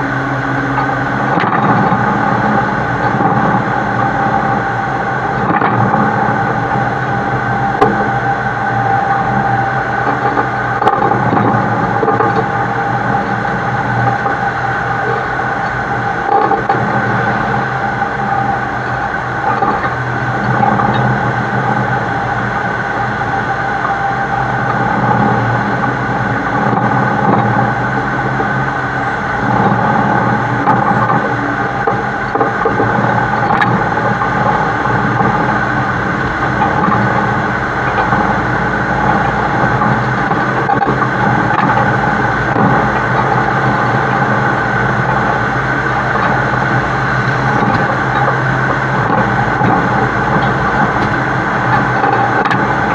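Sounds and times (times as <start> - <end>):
heavy truck engine and tyres: 0.0 - 52.9.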